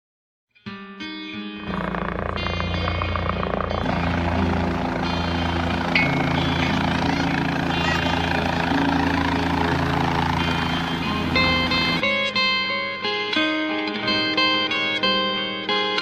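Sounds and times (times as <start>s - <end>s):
background music: 0.6s - 16.0s.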